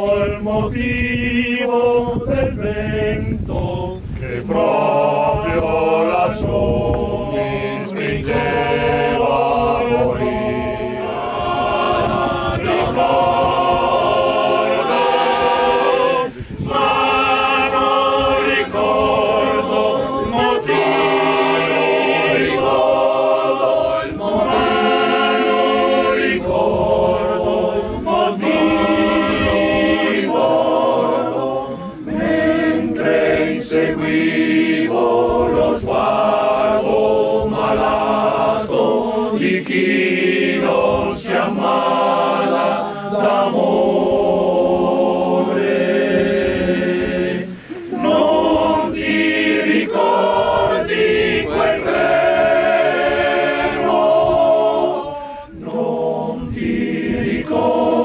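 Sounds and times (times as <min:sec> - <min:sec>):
choir singing: 0:00.0 - 0:58.0.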